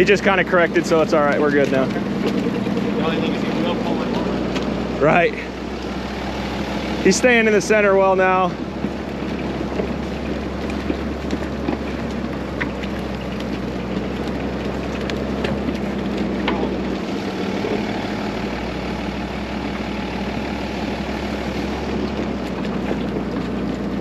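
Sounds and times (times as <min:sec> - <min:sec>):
snowcat engine running: 0:00.0 - 0:24.0.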